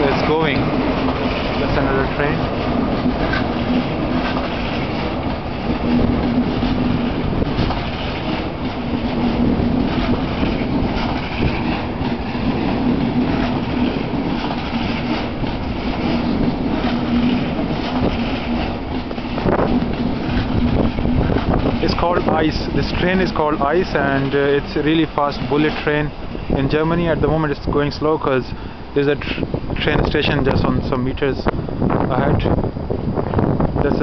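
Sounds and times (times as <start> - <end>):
constant low hum: 0.0 - 34.0
train wheels rumbling on rails: 0.0 - 34.0.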